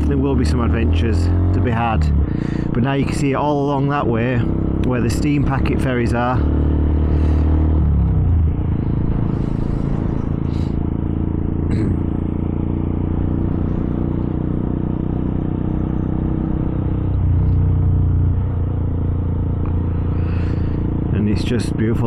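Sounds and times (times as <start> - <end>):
small motorcycle engine running: 0.0 - 22.0.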